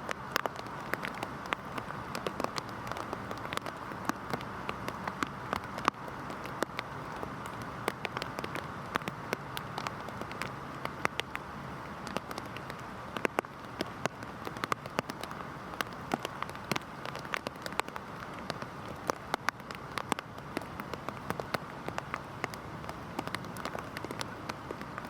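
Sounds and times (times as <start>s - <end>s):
heavy rain hissing: 0.0s - 25.0s
raindrop impacts: 0.0s - 25.0s.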